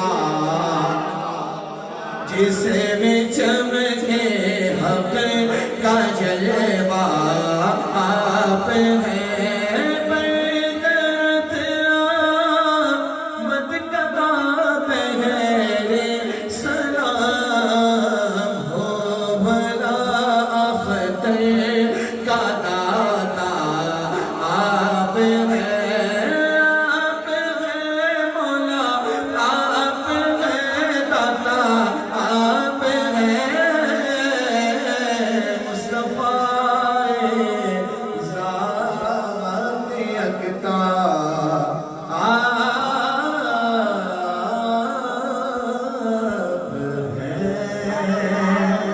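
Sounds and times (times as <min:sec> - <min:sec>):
man singing devotional song: 0:00.0 - 0:48.9.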